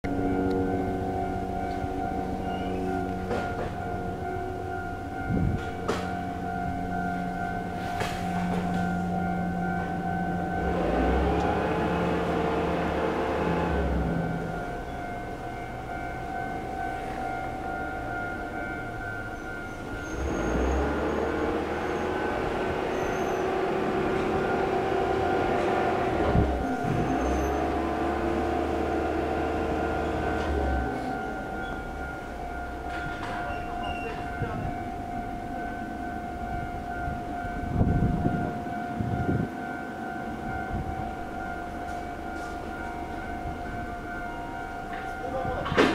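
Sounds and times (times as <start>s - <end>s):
electric train rumbling: 0.0s - 45.9s
level crossing alarm ringing: 0.0s - 45.9s.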